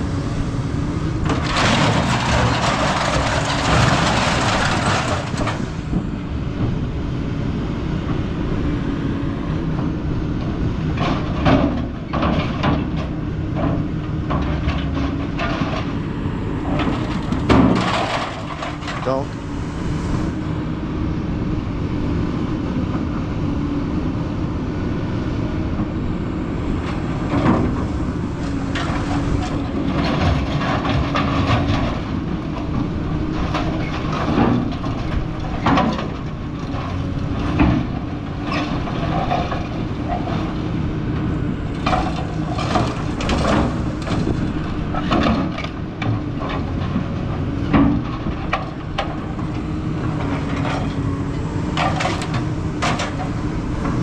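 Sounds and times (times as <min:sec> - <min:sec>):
heavy machine running: 0:00.0 - 0:54.0.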